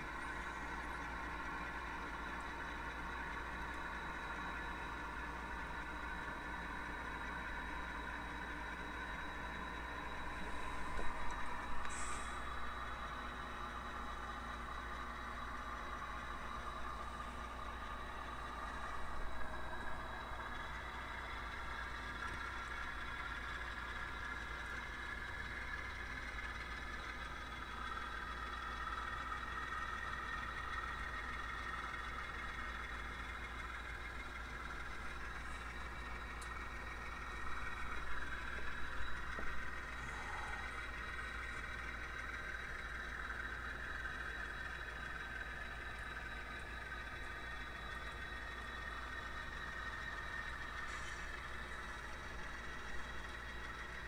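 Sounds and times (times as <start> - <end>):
model train mechanical hum: 0.0 - 54.0.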